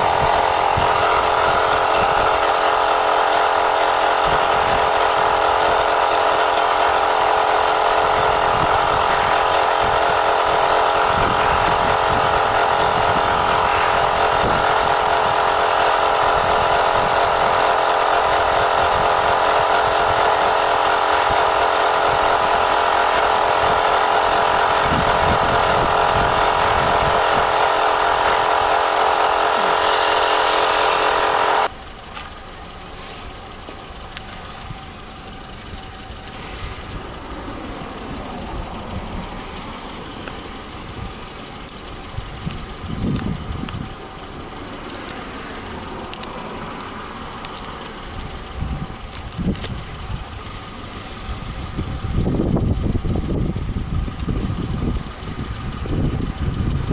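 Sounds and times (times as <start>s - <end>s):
air compressor running: 0.0s - 56.9s.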